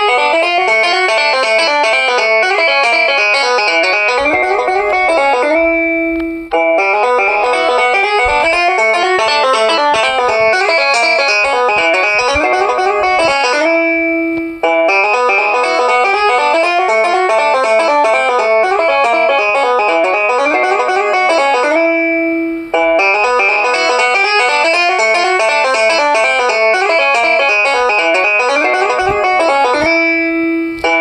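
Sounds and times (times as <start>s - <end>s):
phone ringtone melody: 0.0s - 31.0s.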